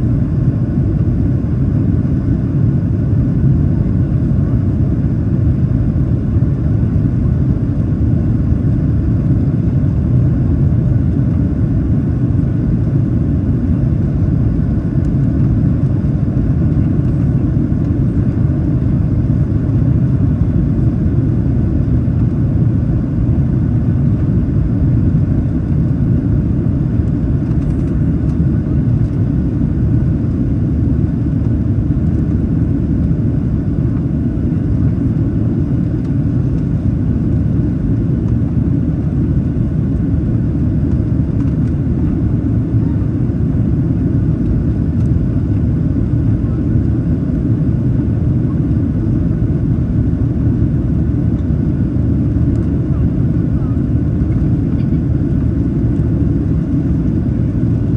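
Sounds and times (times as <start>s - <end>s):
jet engine rumble in cabin: 0.0s - 57.9s.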